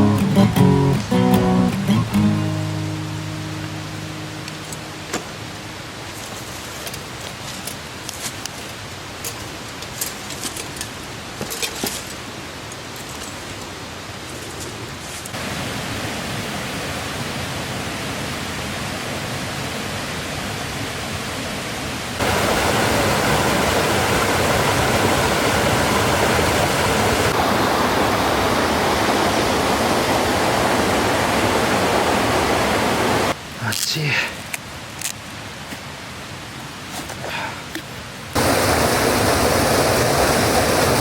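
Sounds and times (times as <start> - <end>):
stream rushing over rocks: 0.0 - 41.0.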